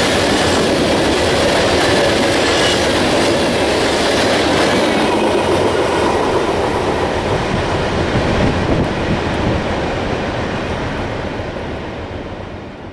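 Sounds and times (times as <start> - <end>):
train wheels clattering on rails: 0.0 - 12.9.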